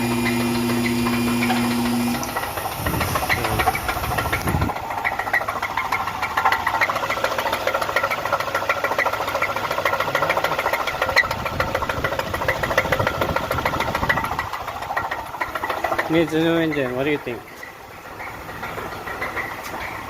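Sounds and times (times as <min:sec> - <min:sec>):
engine idling with rod knock: 0:00.0 - 0:20.0.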